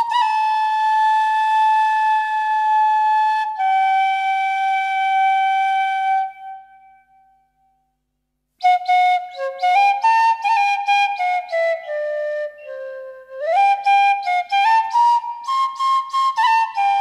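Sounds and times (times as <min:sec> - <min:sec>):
bamboo flute melody: 0:00.0 - 0:07.4, 0:08.6 - 0:17.0.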